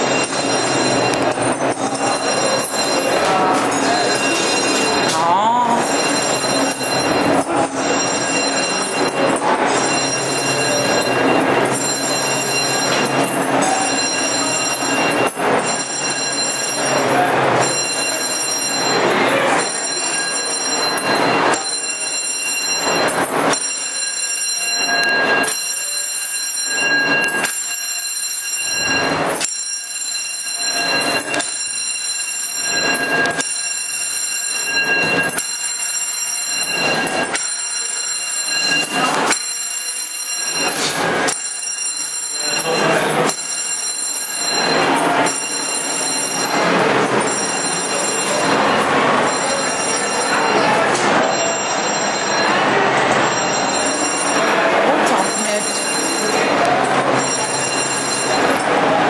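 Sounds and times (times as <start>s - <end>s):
fire alarm ringing: 0.0s - 59.0s.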